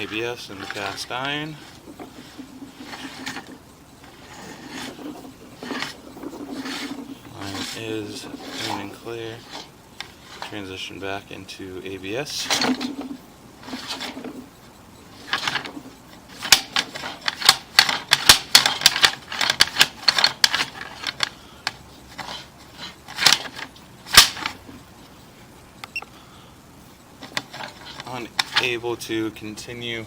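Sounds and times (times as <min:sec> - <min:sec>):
camera cable clattering in a pipe: 0:00.0 - 0:10.6, 0:12.4 - 0:24.8, 0:27.2 - 0:28.8.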